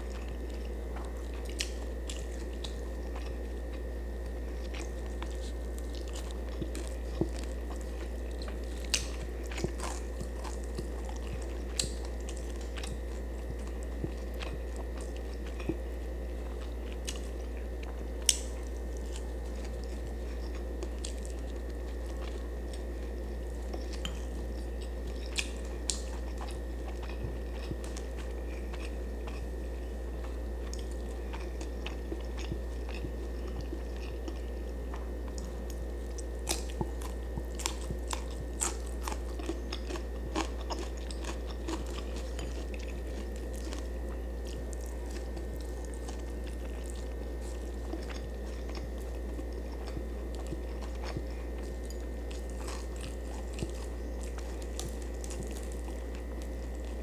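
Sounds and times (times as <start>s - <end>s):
chewing and crunching food: 0.0s - 57.0s
low electrical hum: 0.0s - 57.0s.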